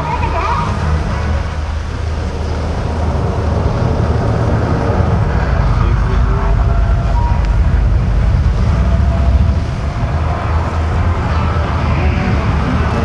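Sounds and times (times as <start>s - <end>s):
pump engine rumble: 0.0s - 13.0s.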